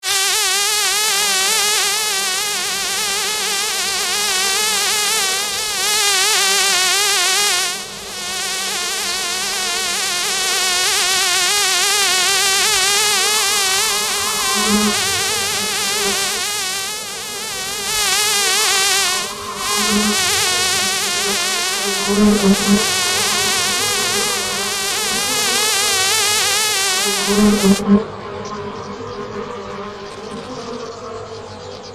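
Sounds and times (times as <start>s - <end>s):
honey bee buzzing: 0.0s - 28.0s.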